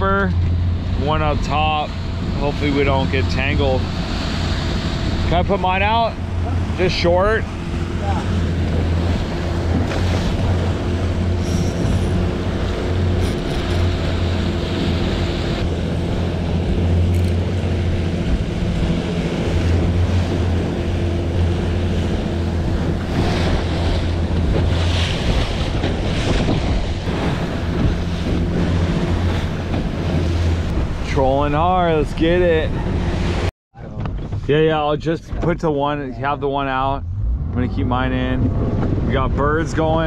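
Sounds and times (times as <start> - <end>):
outboard motor running: 0.0 - 35.5
water rushing past hull: 0.0 - 40.0
wind buffeting microphone: 0.0 - 40.0.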